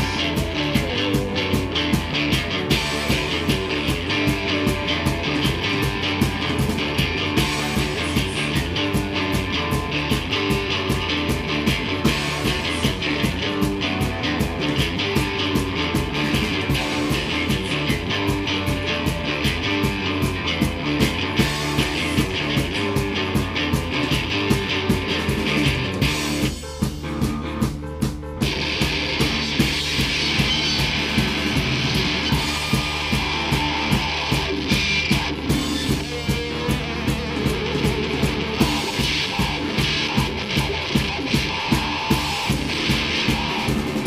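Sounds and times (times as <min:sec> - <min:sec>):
bass guitar: 0:00.0 - 0:44.0
drum kit: 0:00.0 - 0:44.0
electric guitars: 0:00.0 - 0:44.0.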